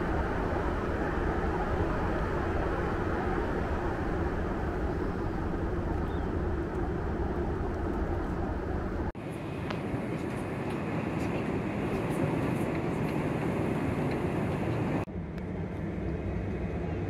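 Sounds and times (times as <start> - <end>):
airplane cabin noise: 0.0 - 17.0.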